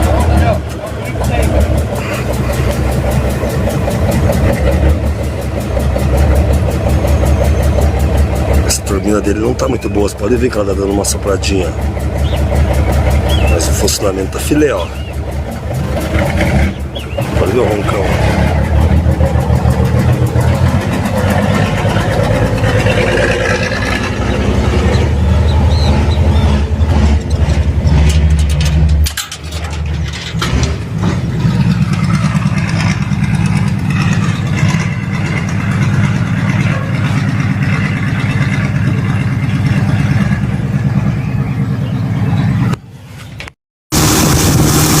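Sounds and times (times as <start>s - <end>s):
turbocharger blowing: 0.0s - 42.8s, 43.9s - 45.0s
diesel truck engine running: 0.0s - 43.0s, 43.9s - 45.0s.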